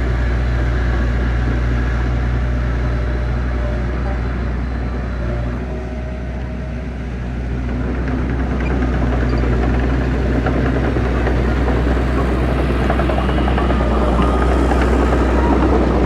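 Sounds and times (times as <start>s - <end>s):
heavy diesel engine drone: 0.0s - 16.0s.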